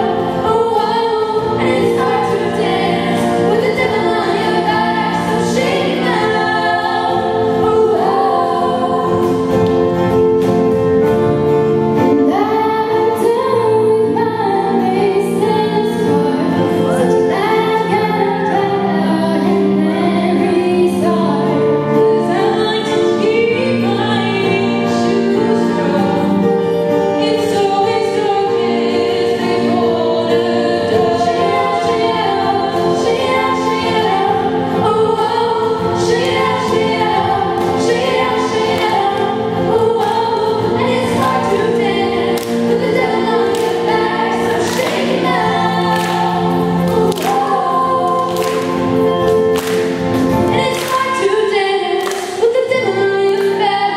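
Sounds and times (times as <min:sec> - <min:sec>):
female a cappella group singing: 0:00.0 - 0:09.6, 0:12.1 - 0:53.9.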